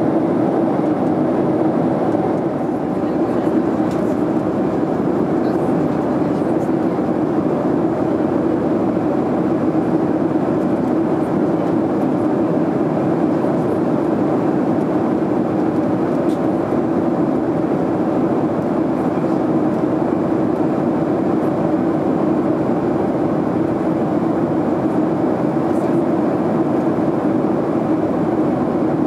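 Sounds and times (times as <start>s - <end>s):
airplane cabin noise: 0.0s - 29.0s.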